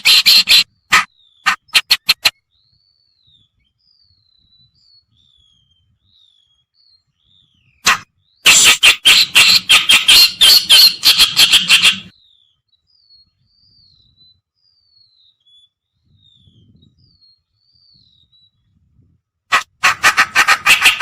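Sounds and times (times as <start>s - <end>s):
bird harsh chattering song: 0.0s - 18.7s, 19.5s - 21.0s.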